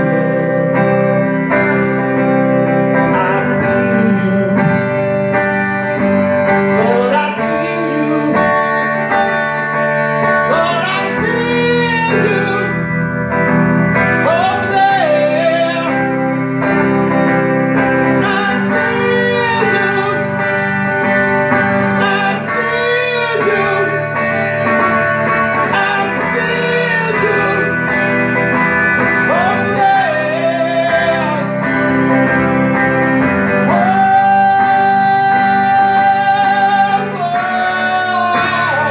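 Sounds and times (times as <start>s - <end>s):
man singing: 0.0s - 9.4s, 10.2s - 24.4s, 25.3s - 38.9s
guitars playing: 0.0s - 38.9s.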